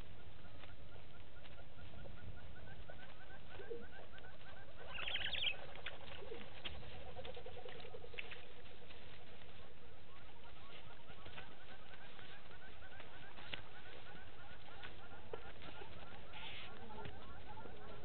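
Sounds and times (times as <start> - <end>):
birds chirping: 0.0 - 18.0
low background noise: 0.0 - 18.0
low repeated bird notes: 0.0 - 18.0.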